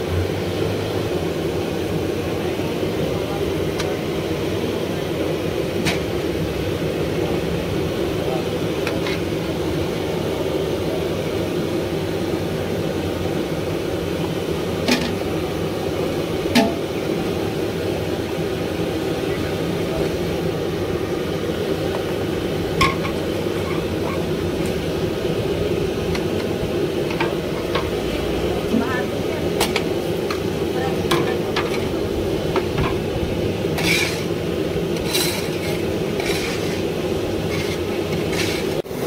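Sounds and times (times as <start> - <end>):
food frying in hot oil: 0.0 - 39.0.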